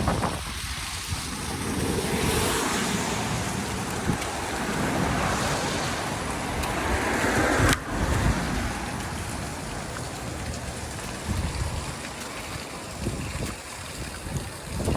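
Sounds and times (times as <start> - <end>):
floodwater rushing down a drain: 0.0 - 14.9.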